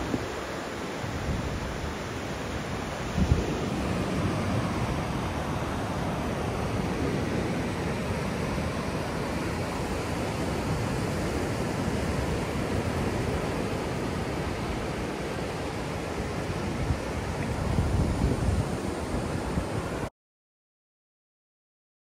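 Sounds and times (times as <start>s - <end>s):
ocean surf breaking on beach: 0.0s - 20.1s
wind rumbling on microphone: 0.0s - 20.1s.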